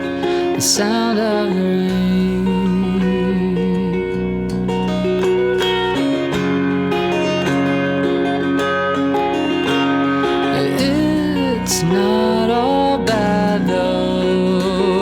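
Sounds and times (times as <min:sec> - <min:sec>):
plucked string instrument: 0:00.0 - 0:15.0.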